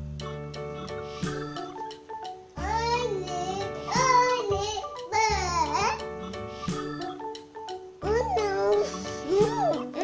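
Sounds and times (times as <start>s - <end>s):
children's music: 0.0s - 10.0s.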